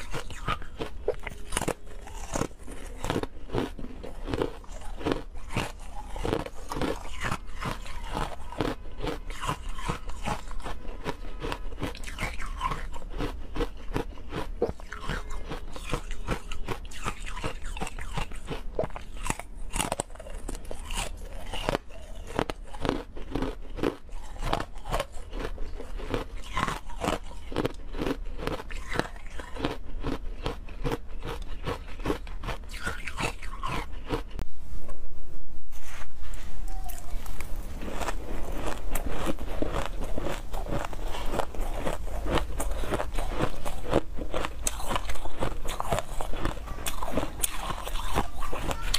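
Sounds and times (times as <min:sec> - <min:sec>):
chewing crunchy ice: 0:00.0 - 0:34.4, 0:36.7 - 0:48.9.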